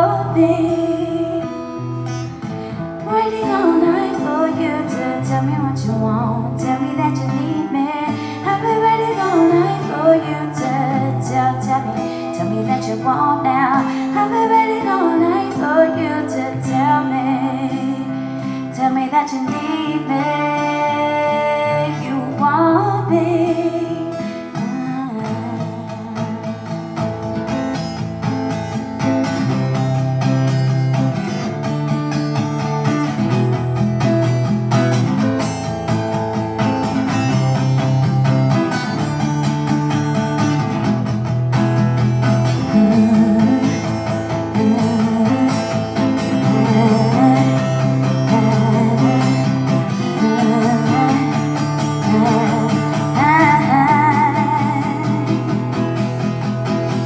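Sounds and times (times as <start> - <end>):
live guitar music: 0.0 - 57.0.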